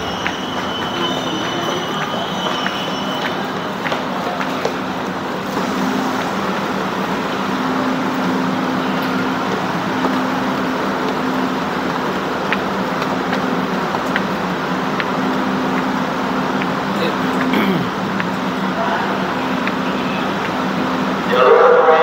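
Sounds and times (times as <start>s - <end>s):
railway station rumble: 0.0s - 22.0s.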